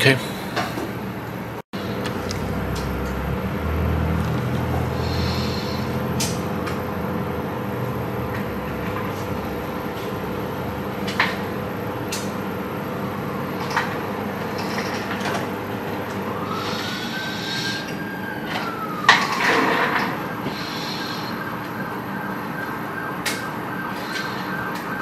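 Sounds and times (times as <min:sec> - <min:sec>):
small machine humming: 0:00.0 - 0:25.0.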